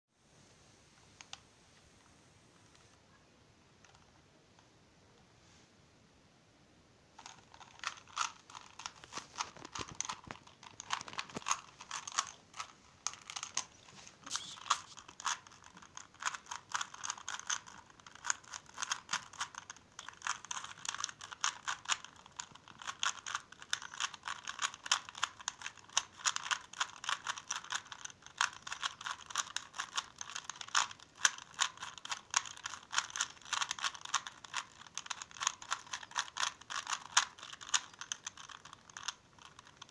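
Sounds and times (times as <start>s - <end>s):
puzzle cube layers clicking: 7.2s - 39.9s.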